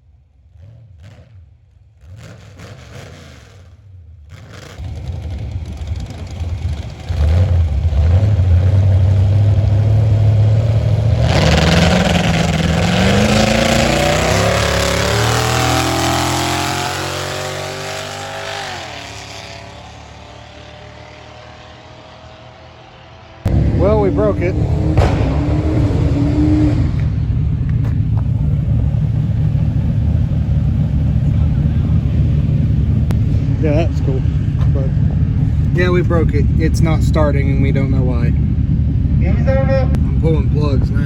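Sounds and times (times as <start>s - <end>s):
drag car engine accelerating: 0.0s - 41.0s.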